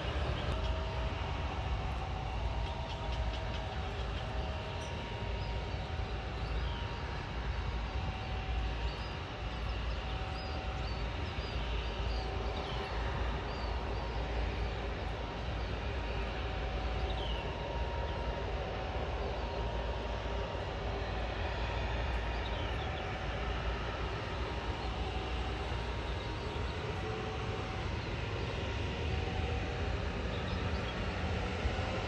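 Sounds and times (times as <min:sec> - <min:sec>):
distant jet engines rumbling: 0:00.0 - 0:32.0.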